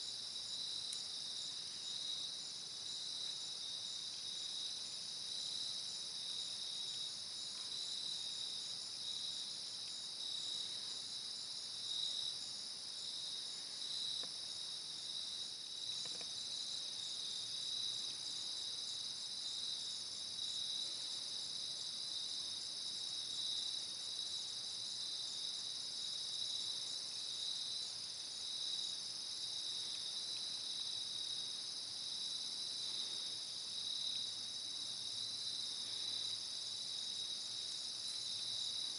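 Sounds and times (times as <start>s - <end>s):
crickets and insects chirring: 0.0s - 38.9s.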